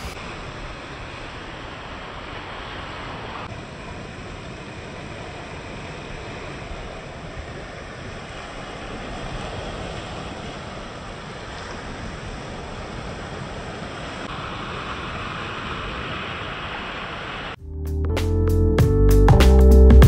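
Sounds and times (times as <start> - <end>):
sea waves breaking on beach: 0.0 - 17.6.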